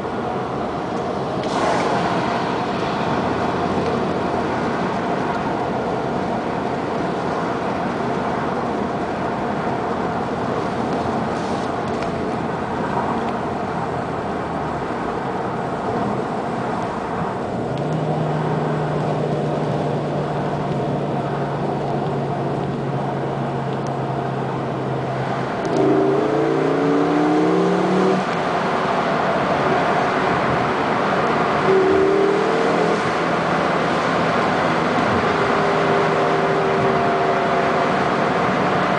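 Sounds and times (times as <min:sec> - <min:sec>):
car engine accelerating: 0:00.0 - 0:38.9
car road noise in cabin: 0:00.0 - 0:38.9.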